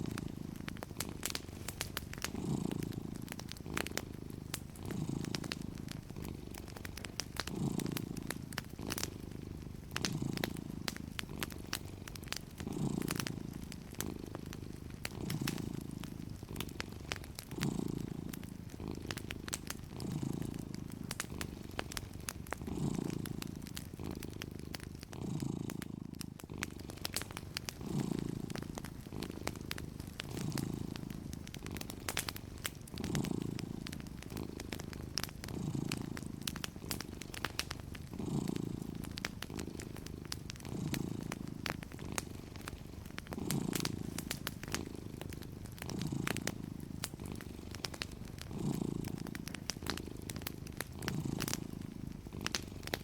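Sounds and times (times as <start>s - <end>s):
cat purring: 0.0s - 53.0s
fireplace crackling: 0.0s - 53.0s.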